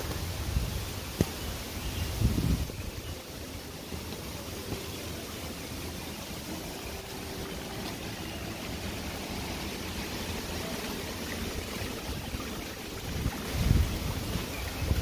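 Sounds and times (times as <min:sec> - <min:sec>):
low buffeting rumble: 0:00.0 - 0:15.0
stream water rushing: 0:00.0 - 0:15.0.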